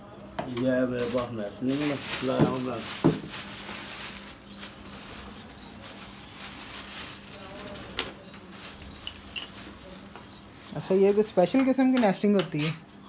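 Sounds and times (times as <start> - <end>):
plastic bag rustling: 0.6 - 11.9.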